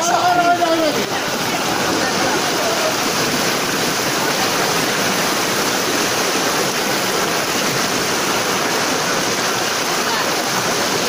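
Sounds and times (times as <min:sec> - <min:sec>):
floodwater rushing and churning: 0:00.0 - 0:11.0.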